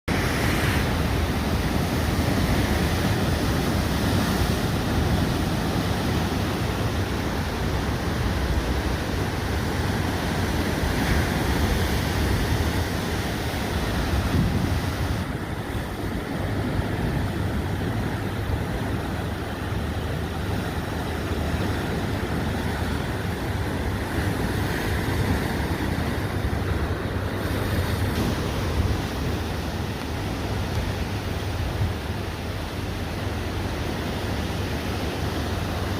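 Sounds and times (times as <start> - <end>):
ocean surf on rocky shore: 0.1 - 35.9
wind rumbling on microphone: 0.1 - 35.9.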